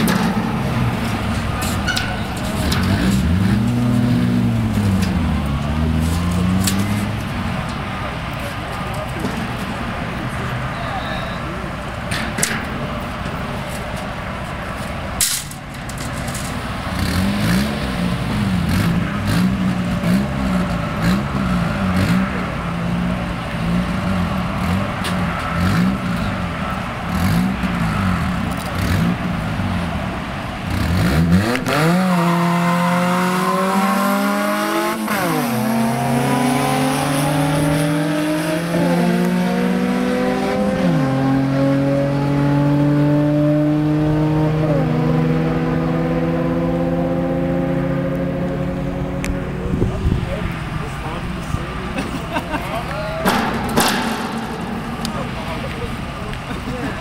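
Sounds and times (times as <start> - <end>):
cars accelerating away: 0.0 - 15.2, 15.8 - 57.0
car engines revving: 0.0 - 57.0.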